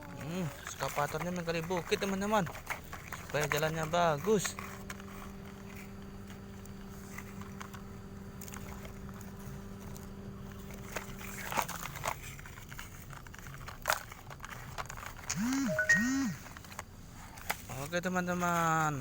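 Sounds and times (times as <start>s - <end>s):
toy electric motor humming: 0.0s - 16.8s
soil being scraped and dug: 0.0s - 19.0s.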